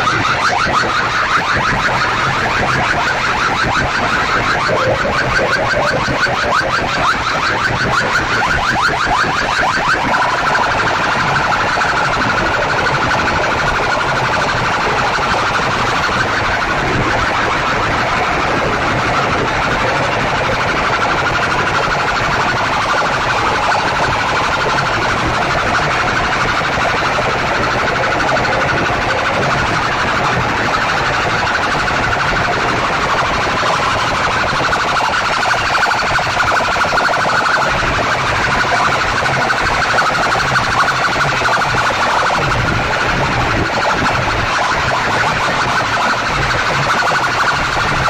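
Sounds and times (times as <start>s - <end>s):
distorted siren-like loudspeaker sound: 0.0s - 48.0s.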